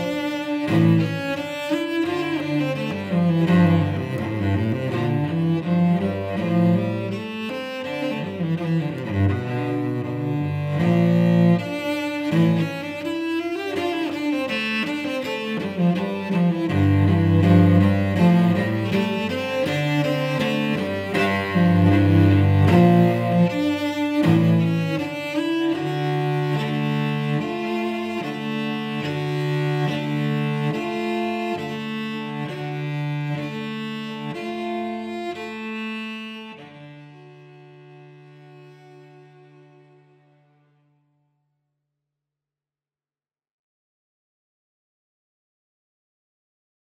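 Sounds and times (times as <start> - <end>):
bowed cello melody: 0.0 - 41.1.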